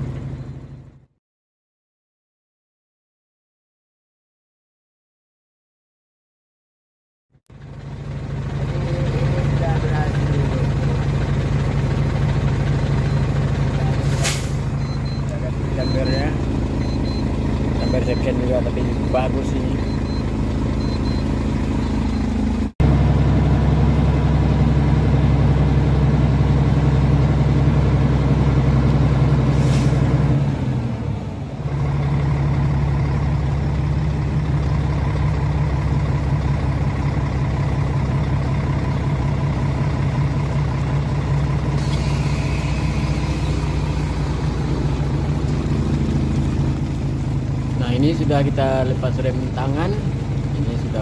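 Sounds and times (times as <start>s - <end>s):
diesel truck engine idling: 0.0s - 1.1s, 7.5s - 51.0s.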